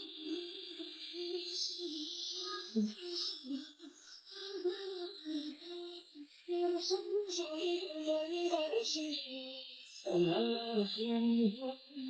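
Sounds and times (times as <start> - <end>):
high voice singing: 0.0 - 12.0.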